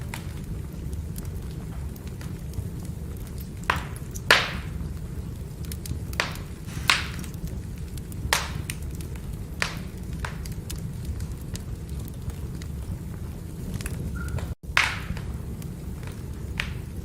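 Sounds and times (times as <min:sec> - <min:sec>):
fire crackling pops: 0:00.0 - 0:17.0
firewood burning roar: 0:00.0 - 0:17.0.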